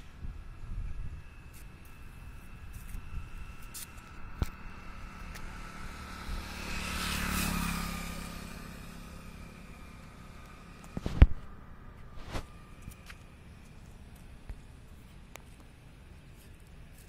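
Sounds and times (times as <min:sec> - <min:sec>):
vehicle engine hum passing by: 0:00.0 - 0:17.0.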